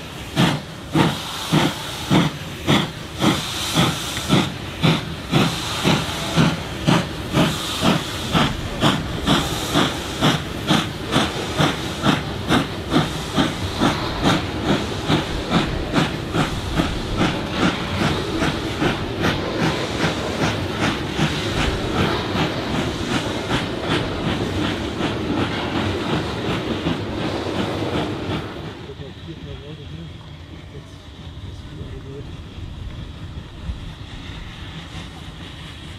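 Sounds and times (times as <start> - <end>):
steady hiss of steam: 0.0 - 35.9
steam locomotive exhaust chuffing: 0.0 - 35.9.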